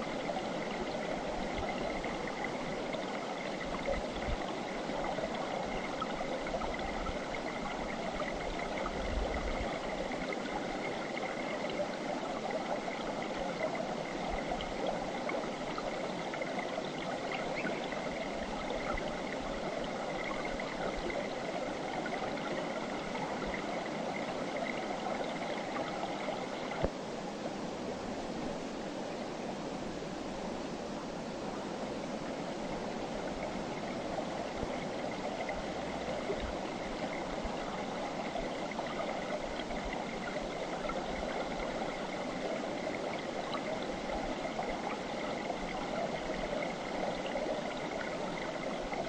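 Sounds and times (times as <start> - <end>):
river flowing over rocks: 0.0 - 49.0.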